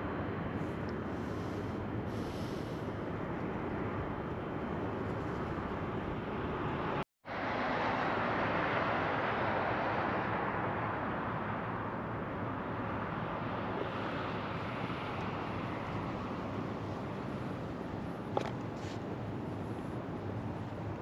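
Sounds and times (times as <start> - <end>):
road traffic passing: 0.2 - 21.0.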